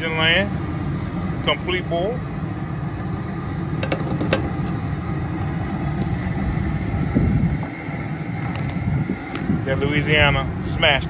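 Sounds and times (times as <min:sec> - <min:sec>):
propane burner rumbling: 0:00.0 - 0:11.0.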